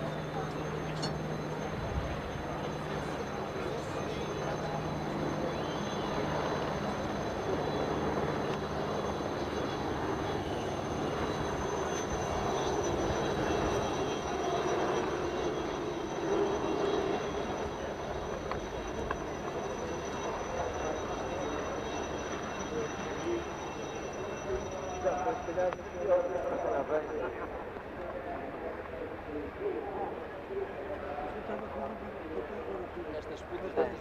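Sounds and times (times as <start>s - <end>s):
distant racing car engines drone: 0.0s - 34.0s.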